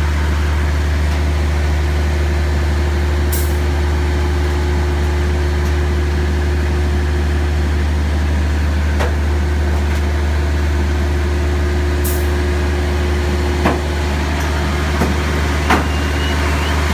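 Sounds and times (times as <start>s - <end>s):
crane machinery humming: 0.0s - 16.9s.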